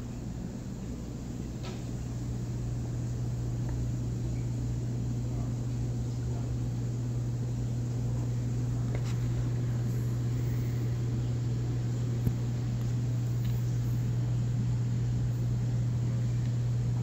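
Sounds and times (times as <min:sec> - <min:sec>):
aquarium pumps humming: 0:00.0 - 0:17.0.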